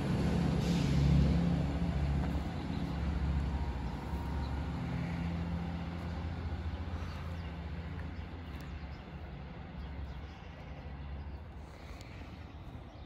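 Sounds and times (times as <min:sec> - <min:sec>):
train engine hum: 0:00.0 - 0:13.0.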